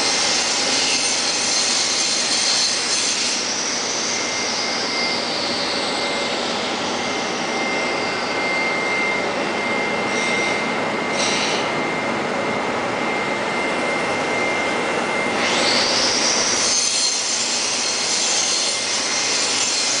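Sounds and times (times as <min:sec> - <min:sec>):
boring mill machine running: 0:00.0 - 0:20.0
high machine whine: 0:00.0 - 0:20.0.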